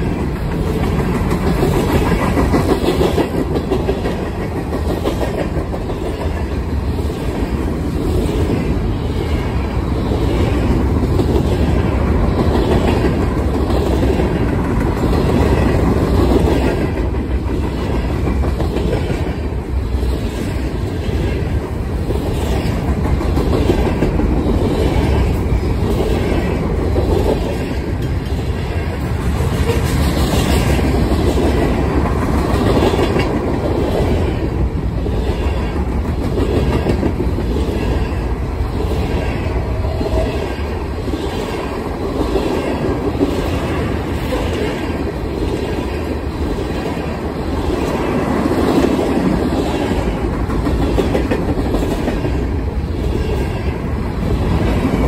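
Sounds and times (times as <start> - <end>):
steel wheels rumbling on rail: 0.0 - 55.0
wheels clacking on rail: 0.0 - 55.0.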